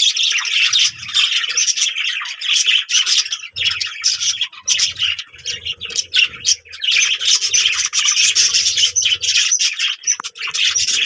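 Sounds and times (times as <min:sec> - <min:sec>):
birds squawking and chirping: 0:00.0 - 0:11.0.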